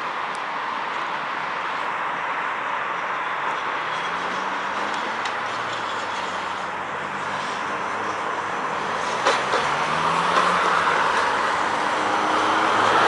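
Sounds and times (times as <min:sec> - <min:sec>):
passing car traffic: 0:00.0 - 0:13.0
tram rolling on track: 0:00.3 - 0:13.0.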